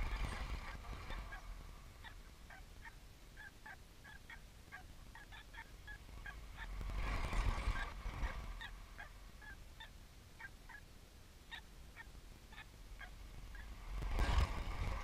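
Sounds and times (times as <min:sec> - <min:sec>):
rush of noise with low rumble: 0:00.0 - 0:03.6, 0:04.4 - 0:15.0.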